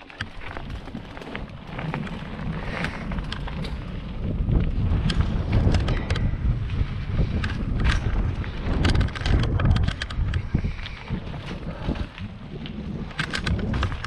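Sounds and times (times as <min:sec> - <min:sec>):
bike clicks and rattles: 0:00.0 - 0:14.0
bike tyres rumbling on dirt: 0:00.0 - 0:14.0
wind buffeting microphone: 0:00.2 - 0:14.0.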